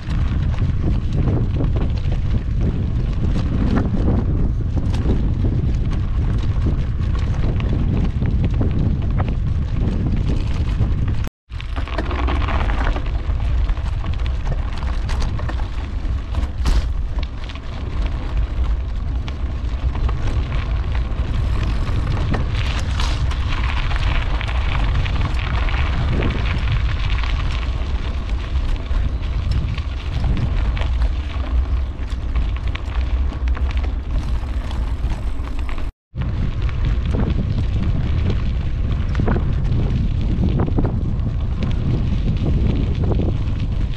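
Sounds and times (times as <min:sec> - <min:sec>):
bicycle tyres crunching on dirt: 0:00.0 - 0:43.9
wind buffeting microphone: 0:00.0 - 0:43.9.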